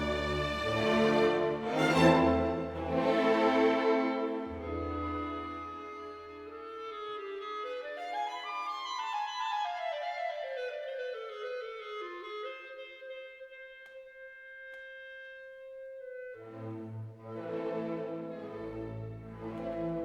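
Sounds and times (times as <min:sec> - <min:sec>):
woodwind melody: 0:00.0 - 0:20.0.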